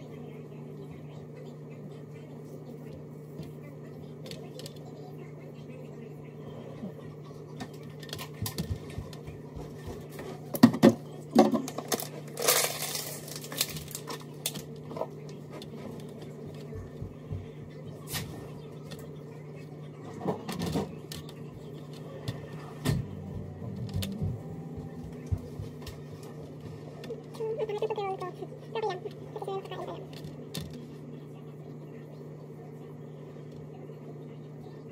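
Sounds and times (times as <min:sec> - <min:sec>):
low electrical hum: 0:00.0 - 0:34.9.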